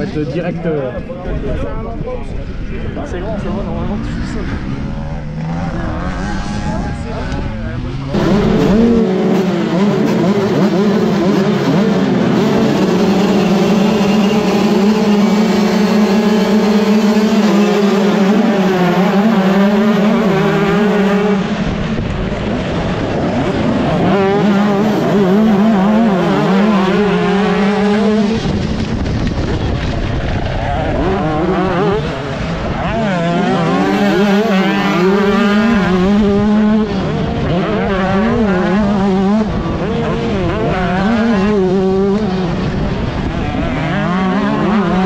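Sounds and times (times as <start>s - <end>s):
motocross bike engine revving: 3.6s - 45.0s.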